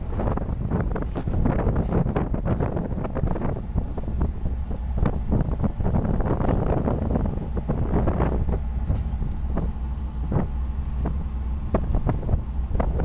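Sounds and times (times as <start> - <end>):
gusty thumps: 0.0 - 13.0
ship engine low hum: 0.0 - 13.0
wind buffeting microphone: 0.0 - 13.0.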